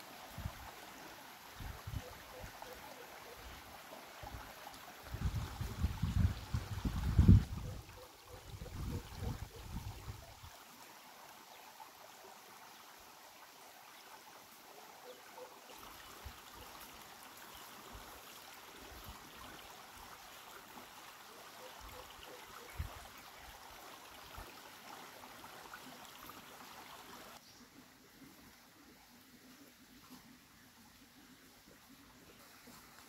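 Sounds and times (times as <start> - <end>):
forest ambience hiss: 0.0 - 7.1, 10.4 - 33.0.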